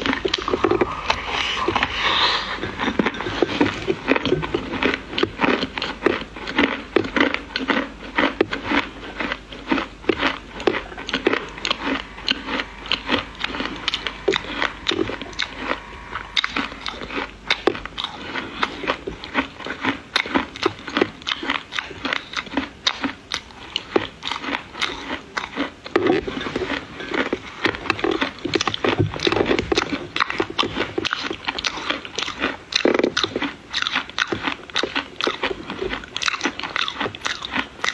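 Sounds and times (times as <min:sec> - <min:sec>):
crunchy chewing: 0:00.0 - 0:37.9.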